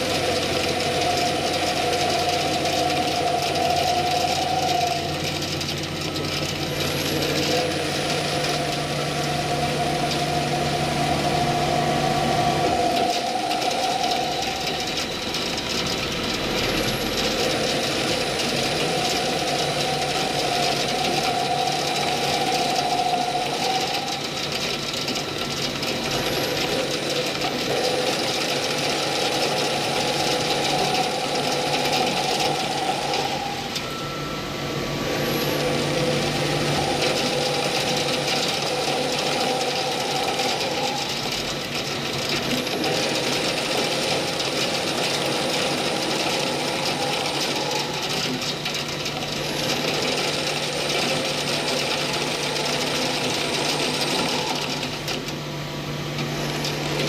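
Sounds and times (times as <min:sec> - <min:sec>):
lathe machining with high whine: 0:00.0 - 0:57.0.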